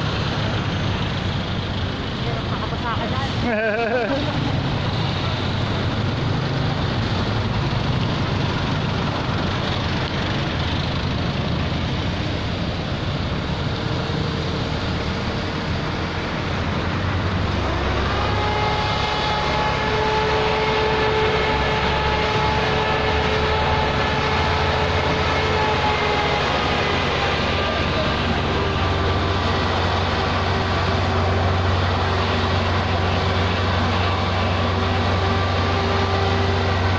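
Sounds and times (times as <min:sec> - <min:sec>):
sprayer fan whining and rumbling: 0:00.0 - 0:36.9
street noise: 0:00.0 - 0:36.9.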